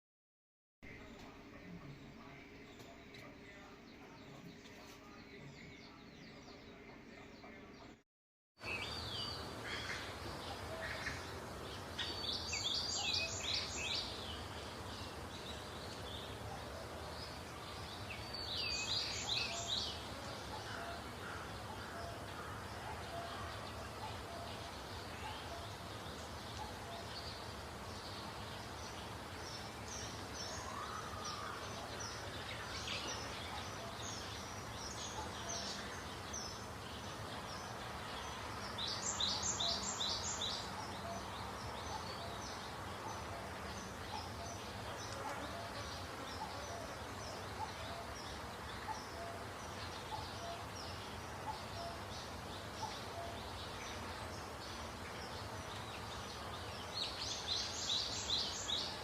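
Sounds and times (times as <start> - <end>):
birds chirping: 8.6 - 59.0
steady background hiss: 8.6 - 59.0.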